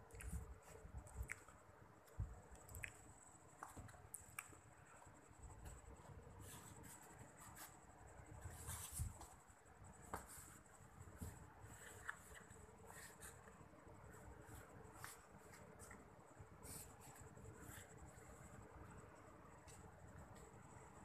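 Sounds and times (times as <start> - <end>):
rustling and soft clicks on fabric: 0.0 - 18.7
faint high-pitched whine: 0.0 - 21.0.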